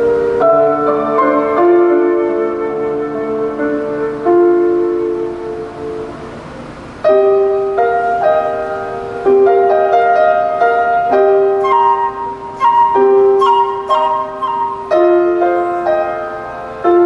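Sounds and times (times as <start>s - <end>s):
flute melody: 0.0s - 17.0s
piano notes: 0.0s - 17.0s.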